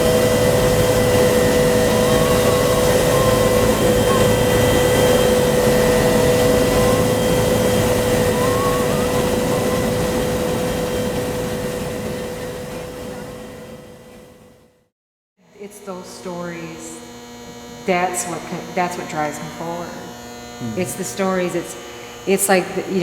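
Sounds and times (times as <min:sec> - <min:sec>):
helicopter turbine whine: 0:00.0 - 0:23.0.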